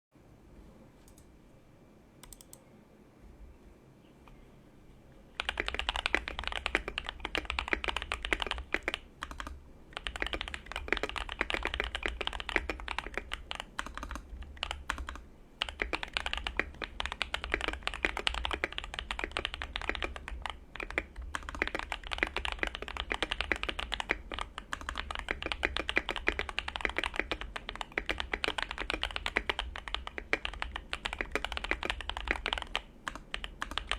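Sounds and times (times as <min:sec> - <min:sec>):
mechanical keyboard typing: 0:02.2 - 0:02.6, 0:05.4 - 0:33.9.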